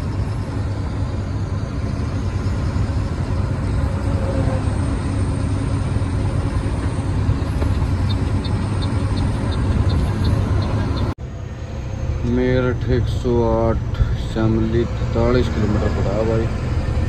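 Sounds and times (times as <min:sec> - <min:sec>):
road noise inside cab: 0:00.0 - 0:17.0
truck engine rumble: 0:00.0 - 0:17.0.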